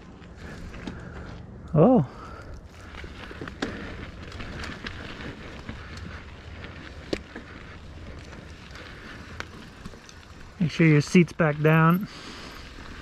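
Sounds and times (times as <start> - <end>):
tyre and wind rumble: 0.0 - 13.0.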